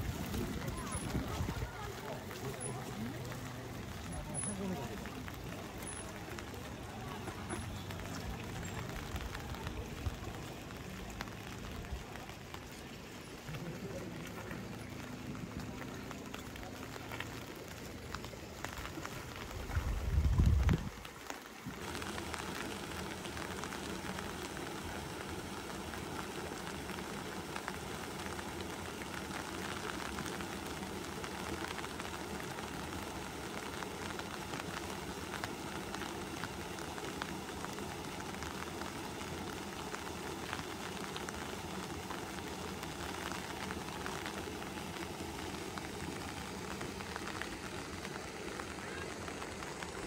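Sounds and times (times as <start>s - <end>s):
steady rain: 0.0s - 50.0s.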